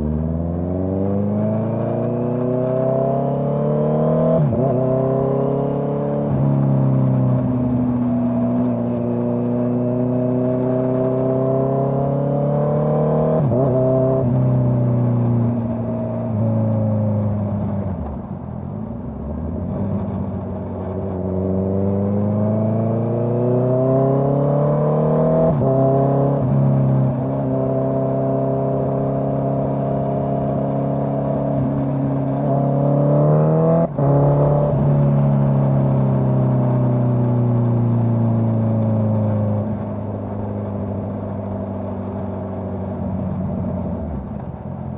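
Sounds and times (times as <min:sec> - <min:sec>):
motorcycle engine revving: 0:00.0 - 0:18.4, 0:19.5 - 0:44.9.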